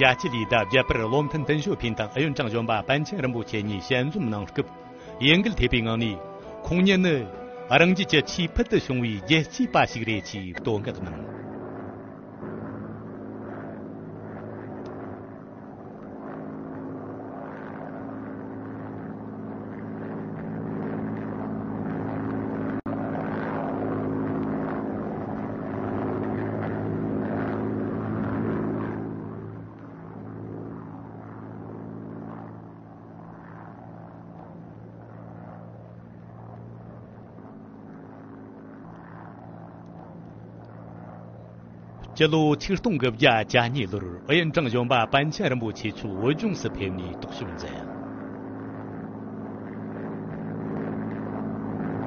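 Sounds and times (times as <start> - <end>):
propeller engines droning: 0.0 - 52.0.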